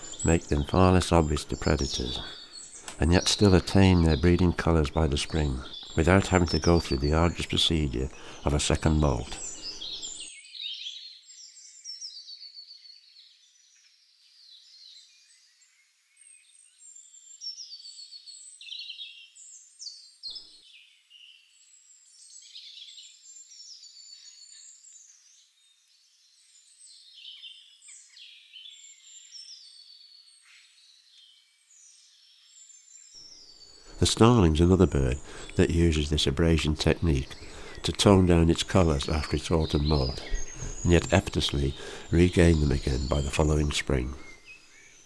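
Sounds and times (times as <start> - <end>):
small birds chirping and singing: 0.0 - 45.0.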